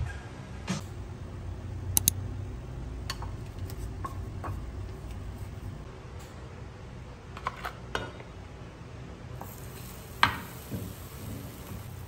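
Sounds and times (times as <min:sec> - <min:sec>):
low steady hum: 0:00.8 - 0:12.0.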